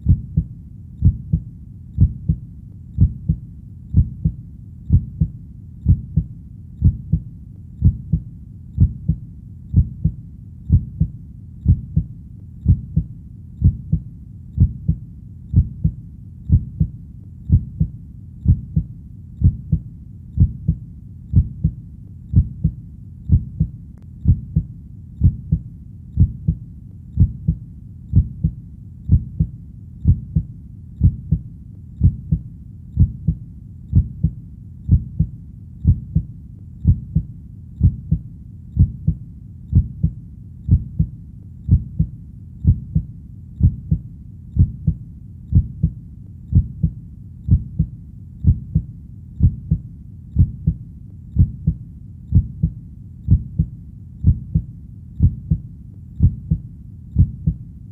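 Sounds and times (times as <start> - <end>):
heartbeat thumps: 0.0 - 2.4, 3.0 - 57.6.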